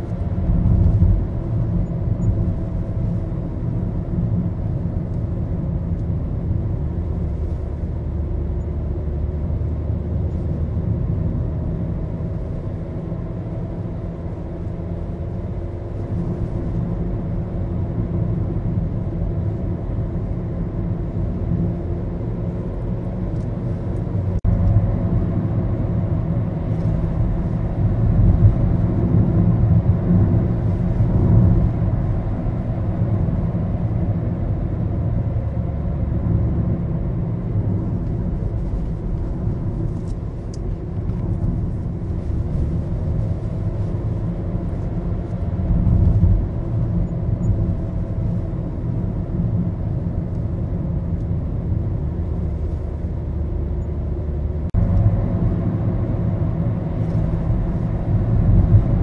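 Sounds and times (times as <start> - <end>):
car engine drone: 0.0 - 59.0
road rumble: 0.0 - 59.0.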